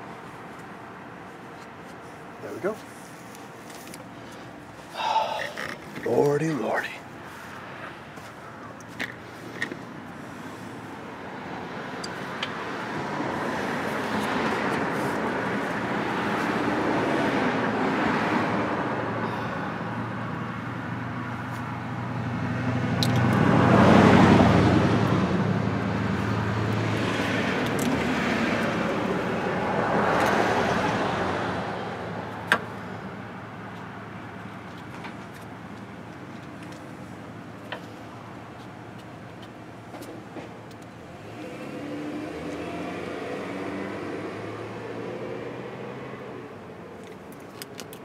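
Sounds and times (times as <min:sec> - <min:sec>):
low engine hum: 0:00.0 - 0:48.0
vehicles passing by: 0:00.0 - 0:48.0.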